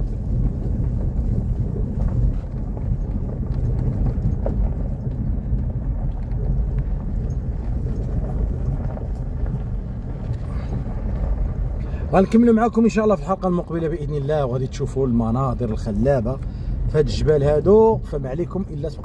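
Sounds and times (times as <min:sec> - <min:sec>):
vehicle rumbling on dirt track: 0:00.0 - 0:19.0.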